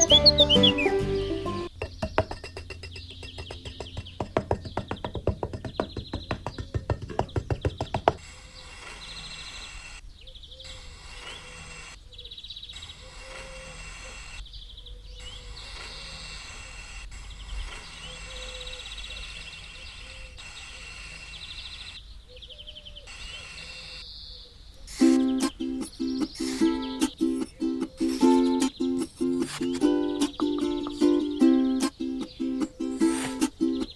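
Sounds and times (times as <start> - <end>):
birds chirping in trills: 0.0 - 10.8, 14.4 - 16.2, 17.2 - 33.9.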